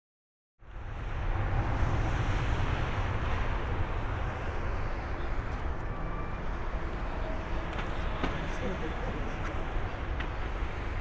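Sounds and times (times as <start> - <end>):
distant jet engines rumbling: 0.7 - 11.0.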